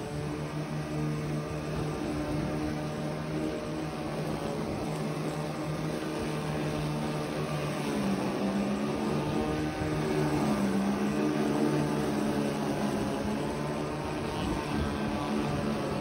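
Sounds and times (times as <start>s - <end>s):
lawn mower motor hum: 0.0s - 16.0s.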